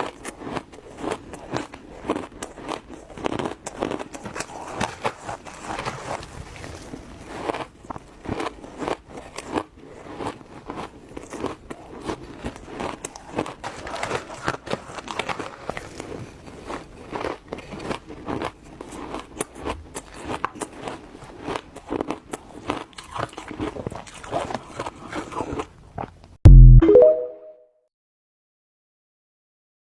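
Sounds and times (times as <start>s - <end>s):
ice being chewed: 0.0s - 26.3s.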